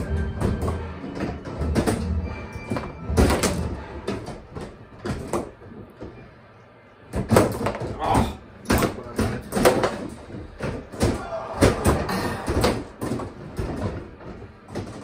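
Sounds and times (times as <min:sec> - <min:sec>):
bubble hockey table clacking: 0:00.0 - 0:06.2, 0:07.1 - 0:15.0.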